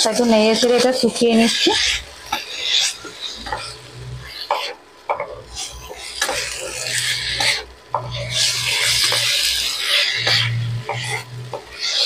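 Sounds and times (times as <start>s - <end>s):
vegetables sizzling: 0.0s - 12.0s
wooden spatula scraping pan: 0.1s - 12.0s.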